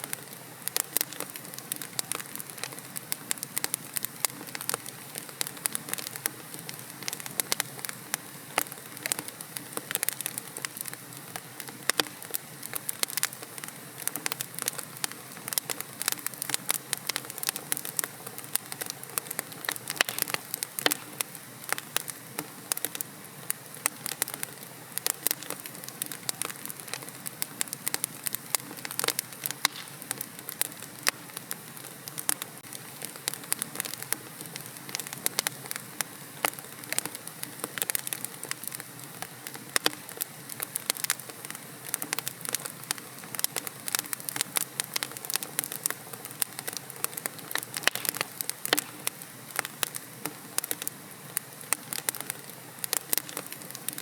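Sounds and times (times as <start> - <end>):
fire crackling and popping: 0.0 - 54.0
soft hiss of flames: 0.0 - 54.0.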